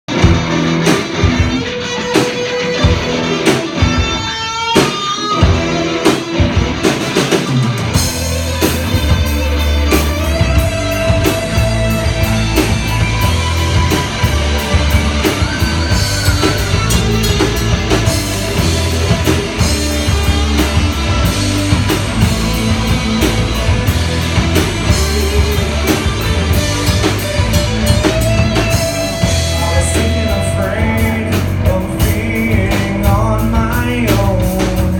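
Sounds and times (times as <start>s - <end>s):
drum kit: 0.0s - 34.9s
electric guitar: 0.0s - 34.9s
rock band playing live: 0.0s - 34.9s
heavy bass line: 0.1s - 2.0s, 5.3s - 34.9s.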